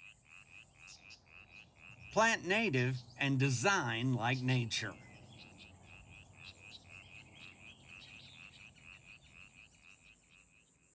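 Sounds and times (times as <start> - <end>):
frogs calling: 0.3 - 10.2.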